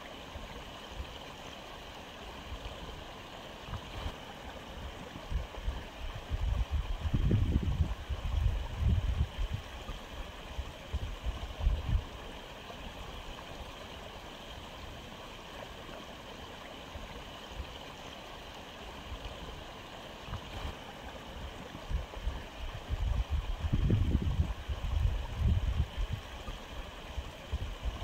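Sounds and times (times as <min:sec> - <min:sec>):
aquarium water hissing and gurgling: 0:00.0 - 0:28.0.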